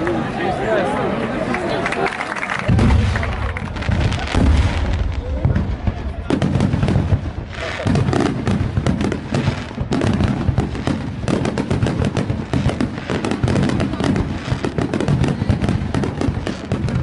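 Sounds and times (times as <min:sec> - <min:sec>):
fireworks cracking and banging: 0:02.3 - 0:17.0.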